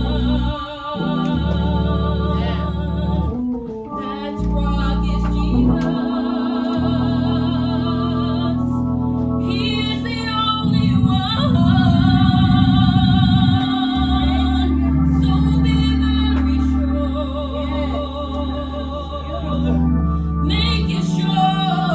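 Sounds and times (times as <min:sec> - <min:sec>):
person singing: 0:00.0 - 0:08.9, 0:09.5 - 0:21.9
organ chords: 0:00.0 - 0:21.9.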